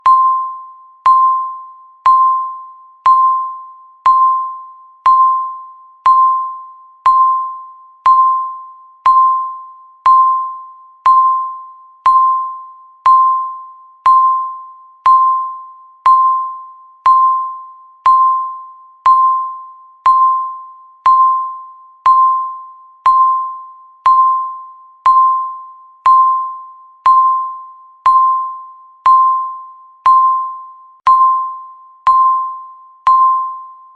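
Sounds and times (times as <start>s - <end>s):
timer electronic beep: 0.0s - 33.9s.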